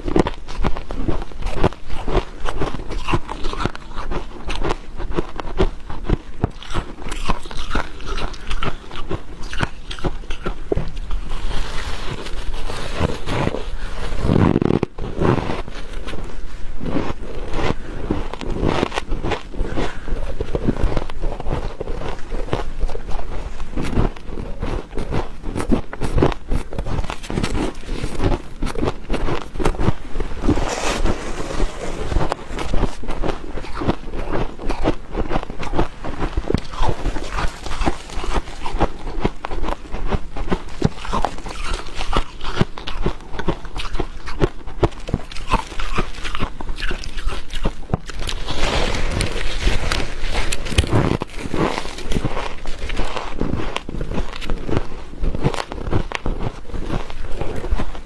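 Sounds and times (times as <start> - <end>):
chewing frost crunches: 0.0 - 58.0.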